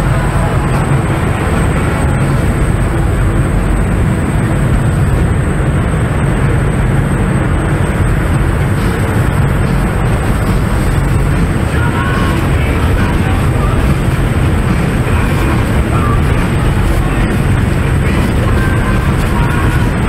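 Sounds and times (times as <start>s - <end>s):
boat engine drone: 0.0s - 20.0s
wind buffeting microphone: 0.0s - 20.0s.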